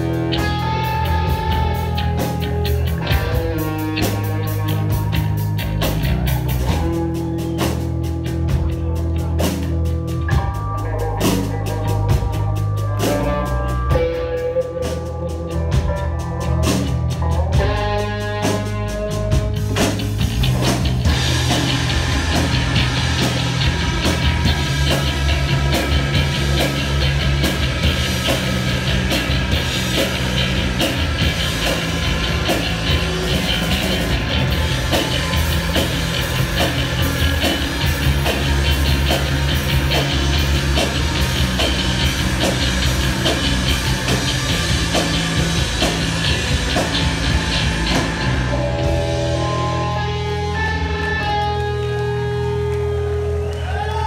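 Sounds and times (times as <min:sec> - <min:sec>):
bass guitar: 0:00.0 - 0:54.0
distorted electric guitar: 0:00.0 - 0:54.0
pounding drum kit: 0:00.0 - 0:54.0.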